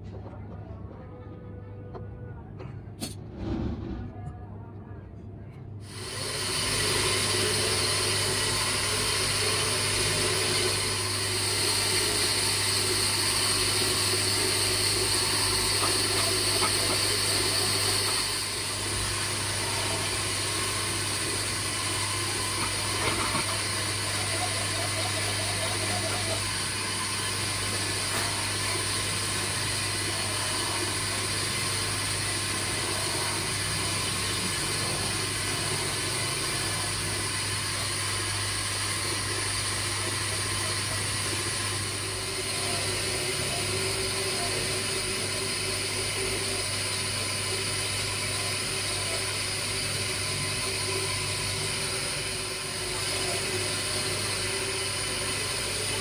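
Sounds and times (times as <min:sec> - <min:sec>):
electric motor spindle humming: 0:05.9 - 0:56.0.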